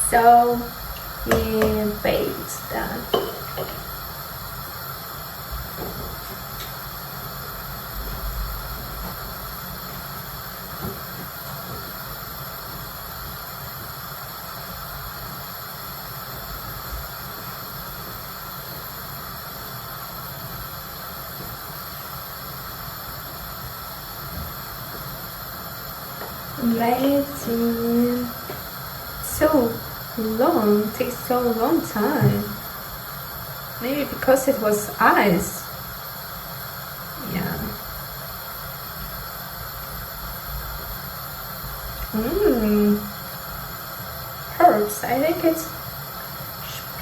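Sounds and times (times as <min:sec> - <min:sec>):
stove hiss and hum: 0:00.0 - 0:47.0.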